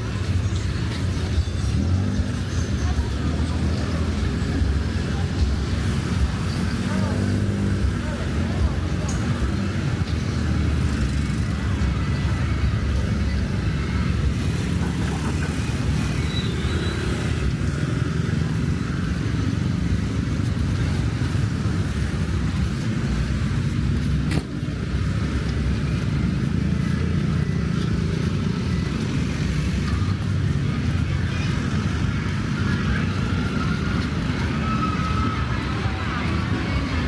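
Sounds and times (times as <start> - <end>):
motorbikes and cars passing: 0.0 - 37.0.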